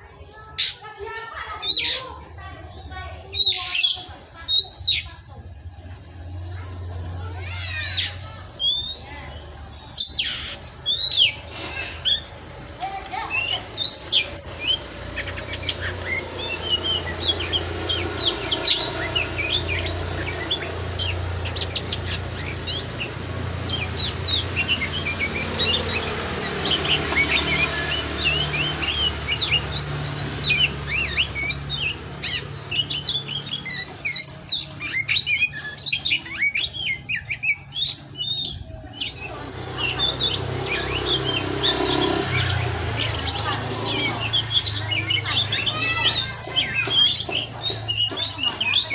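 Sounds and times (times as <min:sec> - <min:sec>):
bird singing chirps and whistles: 0:07.5 - 0:12.4, 0:13.1 - 0:48.9.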